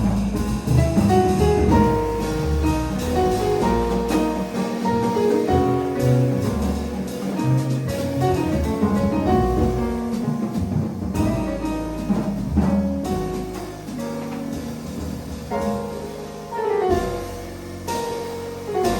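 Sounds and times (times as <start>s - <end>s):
drum kit with cymbals: 0.0s - 18.9s
piano: 0.0s - 18.9s
plucked bass notes: 0.0s - 18.9s.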